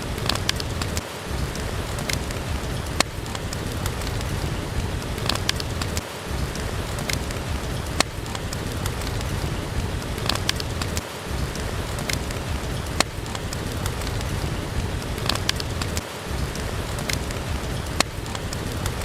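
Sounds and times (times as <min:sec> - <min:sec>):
steady rain hissing: 0:00.0 - 0:19.0
wood fire crackling and popping: 0:00.0 - 0:19.0.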